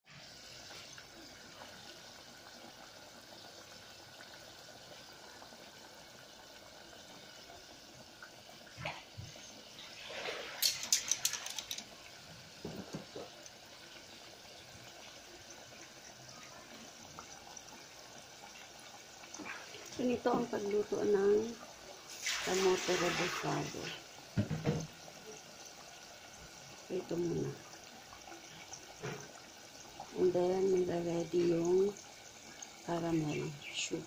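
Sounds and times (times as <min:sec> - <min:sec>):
oil sizzling while deep-frying: 0:00.0 - 0:34.0.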